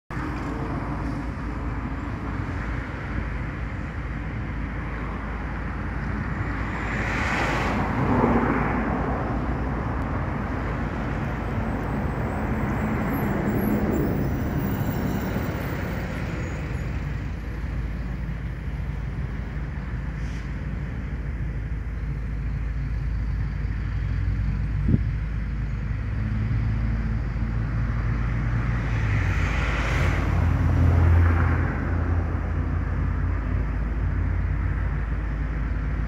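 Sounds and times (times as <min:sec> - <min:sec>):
diesel locomotive rumble: 0:00.1 - 0:36.0.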